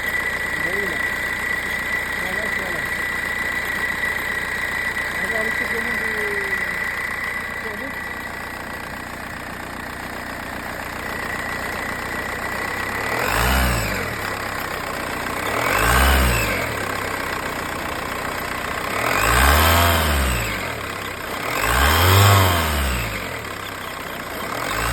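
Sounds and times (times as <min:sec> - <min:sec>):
car engine idling and revving: 0:00.0 - 0:24.9.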